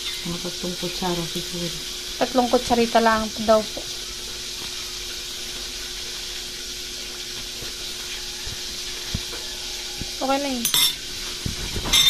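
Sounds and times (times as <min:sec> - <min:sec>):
pot hissing on stove: 0:00.0 - 0:12.0.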